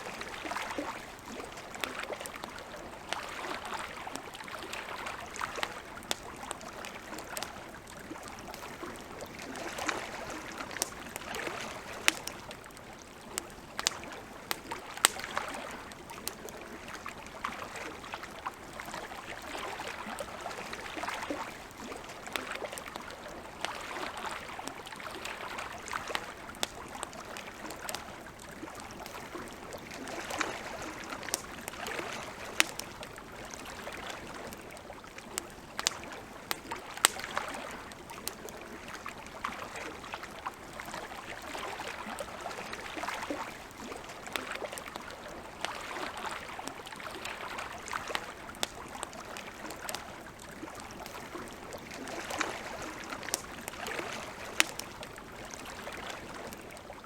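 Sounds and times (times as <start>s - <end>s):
campfire crackling: 0.0s - 57.0s
water lapping at shore: 0.0s - 57.0s.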